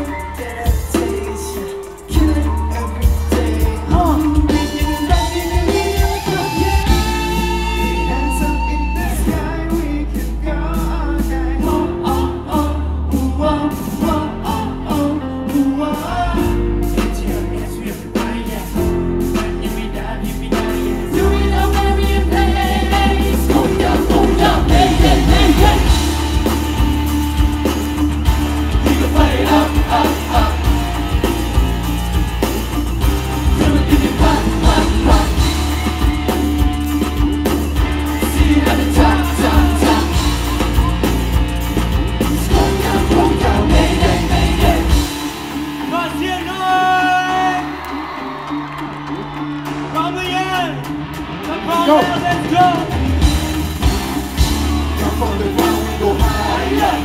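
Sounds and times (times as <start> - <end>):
group singing: 0.0 - 16.6, 17.2 - 45.9, 54.4 - 57.0
bass guitar: 0.0 - 57.0
drums: 0.0 - 57.0.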